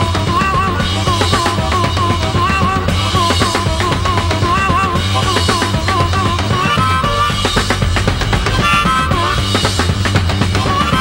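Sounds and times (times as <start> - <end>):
bass guitar: 0.0 - 11.0
drum kit: 0.0 - 11.0
harmonica bending notes: 0.0 - 11.0.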